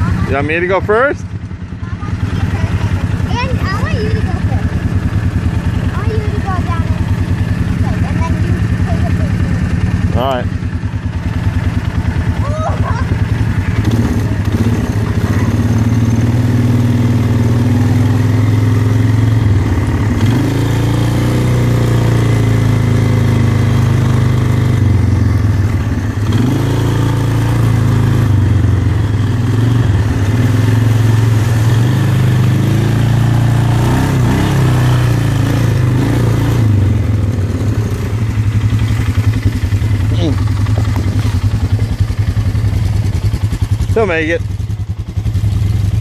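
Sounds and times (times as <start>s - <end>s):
quad bike engine revving: 0.0s - 46.0s.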